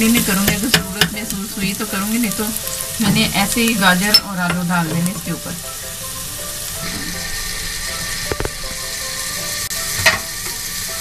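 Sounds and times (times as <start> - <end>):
faint background tune: 0.0 - 11.0
onions sizzling in hot oil: 0.0 - 11.0.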